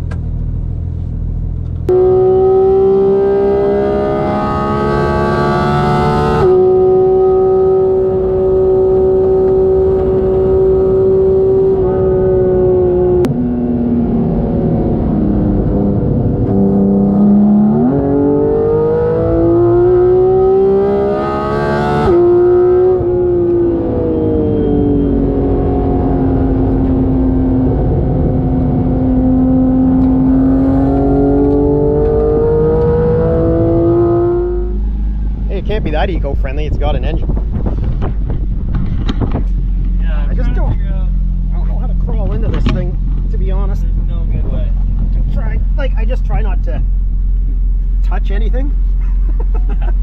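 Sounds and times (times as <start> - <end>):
sports car engine accelerating: 0.0 - 50.0.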